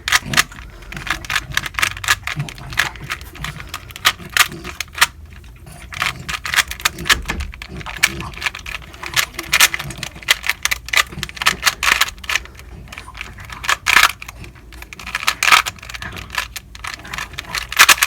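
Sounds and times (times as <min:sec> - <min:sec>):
puzzle cube clacking: 0:00.0 - 0:18.0.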